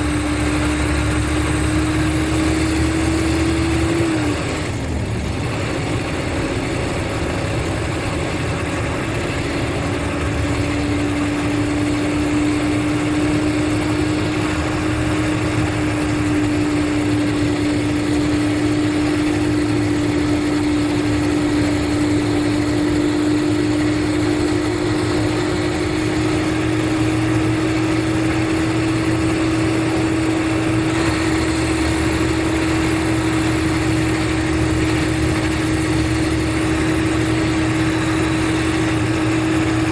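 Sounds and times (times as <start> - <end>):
bus engine rumble: 0.0 - 39.9
high engine whine: 0.0 - 39.9.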